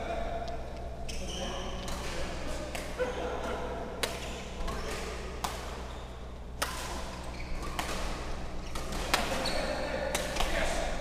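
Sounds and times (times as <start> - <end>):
rackets hitting shuttlecock: 1.8 - 10.8.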